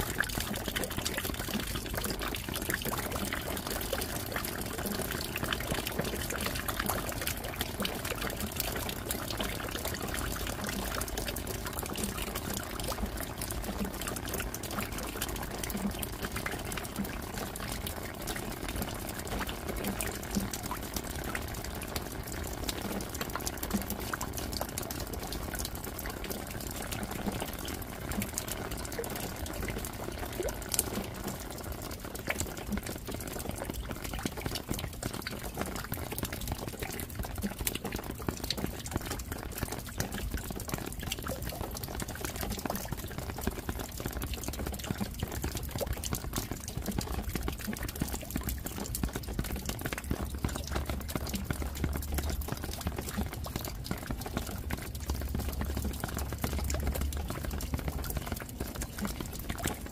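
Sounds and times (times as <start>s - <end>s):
raindrops ticking: 0.0s - 59.9s
steady rain falling: 0.0s - 59.9s.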